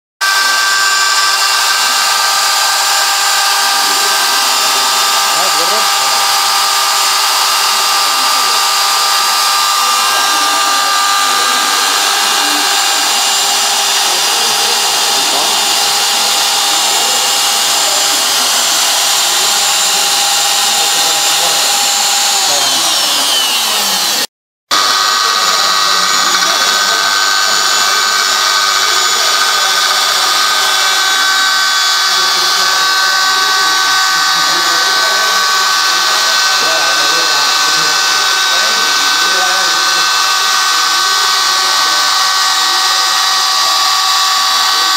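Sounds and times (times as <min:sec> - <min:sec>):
router motor whine: 0:00.2 - 0:44.9.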